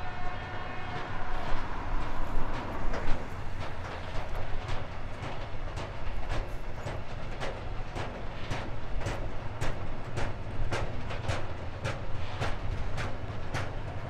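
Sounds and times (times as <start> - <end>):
train rumbling: 0.0 - 14.0
train wheels clacking over rail joints: 0.8 - 14.0.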